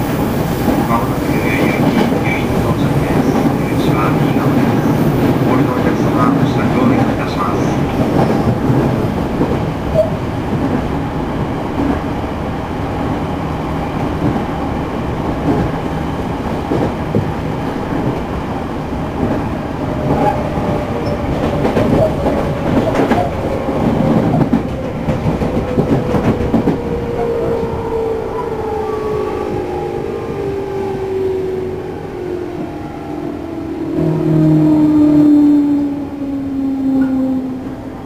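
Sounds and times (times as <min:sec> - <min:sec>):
train interior rumble: 0:00.0 - 0:38.0.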